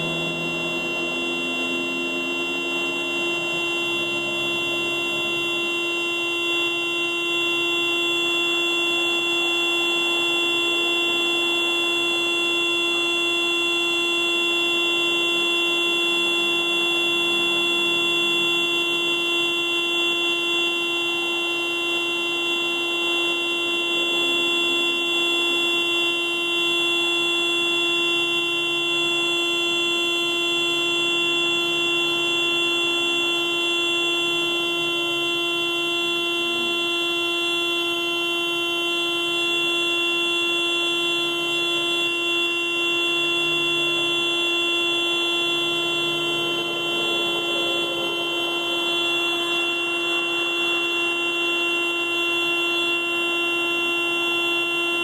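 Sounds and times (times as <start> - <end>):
car alarm steady tone: 0.0 - 55.0.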